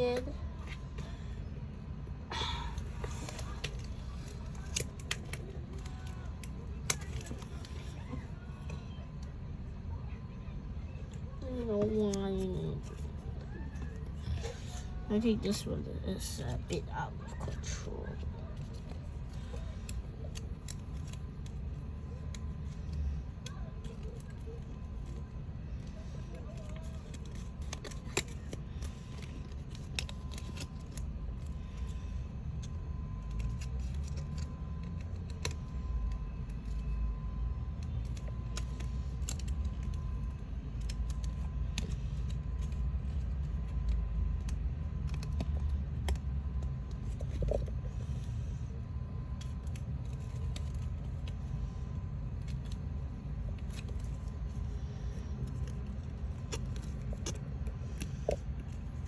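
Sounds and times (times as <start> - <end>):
steady low rumble: 0.0 - 59.0
paper clicks and rustles: 3.0 - 9.4, 12.0 - 15.5, 16.5 - 59.0.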